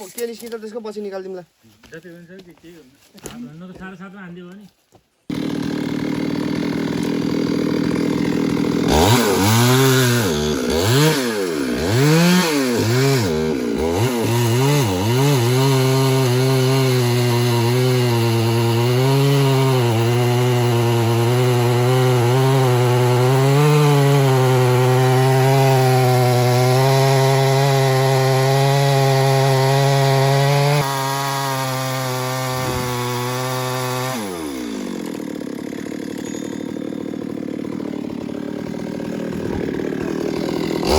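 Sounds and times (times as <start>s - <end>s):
chainsaw revving and cutting: 5.3s - 40.9s.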